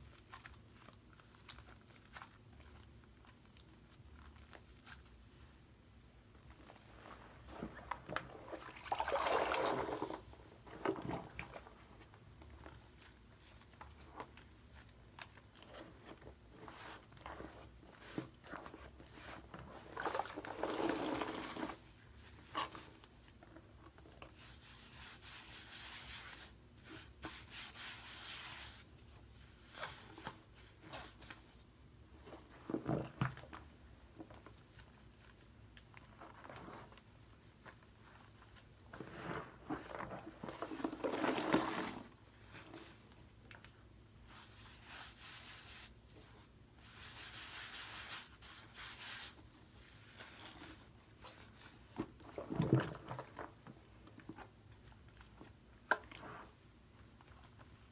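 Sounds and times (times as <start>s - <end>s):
wet squishing of foam and sponge: 6.4s - 43.3s, 44.2s - 57.9s.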